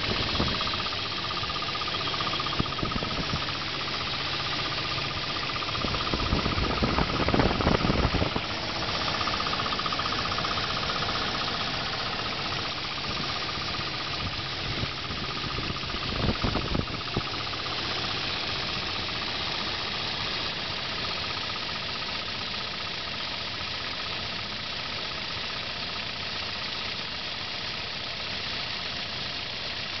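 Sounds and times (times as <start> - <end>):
car engine idling with knock: 0.0 - 30.0.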